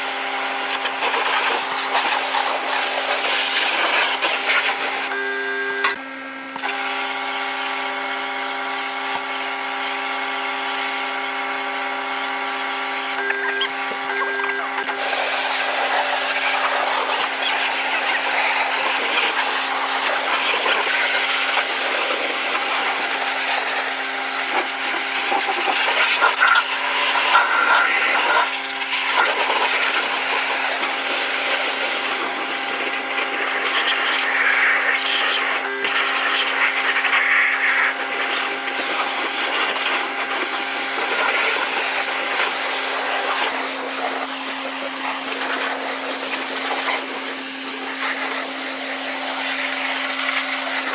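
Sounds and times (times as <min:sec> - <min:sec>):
water jet hissing on metal: 0:00.0 - 0:05.1, 0:13.0 - 0:50.9
pressure washer humming: 0:00.0 - 0:50.9.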